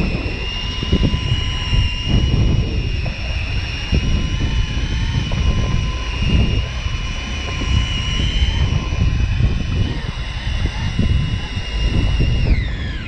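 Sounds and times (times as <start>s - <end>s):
motor whining: 0.0s - 13.0s
wind buffeting microphone: 0.0s - 13.0s.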